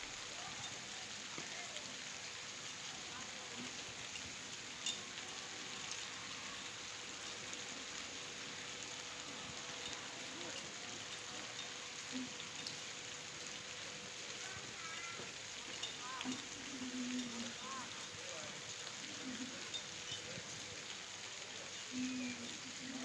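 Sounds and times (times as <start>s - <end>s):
gentle rain falling: 0.0s - 23.0s.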